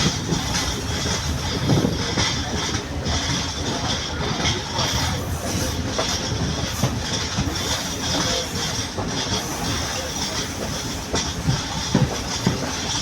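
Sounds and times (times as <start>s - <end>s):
train rumbling on rails: 0.0s - 13.0s
wheels clicking over rail joints: 0.0s - 13.0s.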